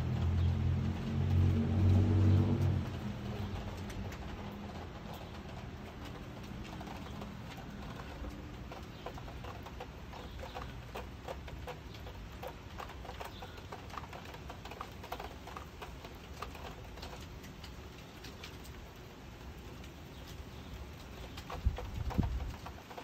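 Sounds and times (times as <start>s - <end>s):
raindrops pattering and dripping: 0.0s - 23.0s.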